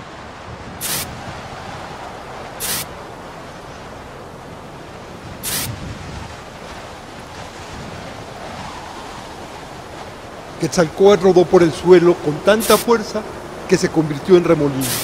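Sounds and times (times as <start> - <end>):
steady wind: 0.0 - 15.0
whooshing gusts: 0.0 - 15.0.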